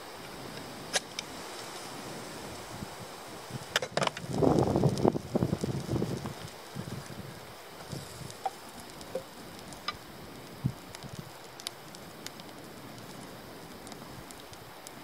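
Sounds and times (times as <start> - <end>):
kindling fire crackling: 0.0 - 15.0.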